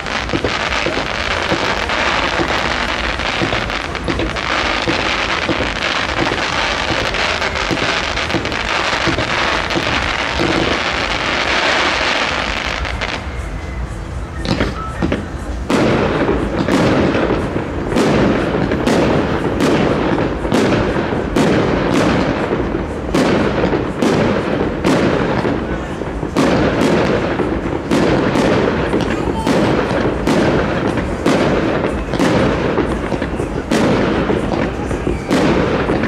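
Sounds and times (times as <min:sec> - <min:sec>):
fireworks crackling: 0:00.0 - 0:36.0
fireworks sharp bangs: 0:00.0 - 0:36.0.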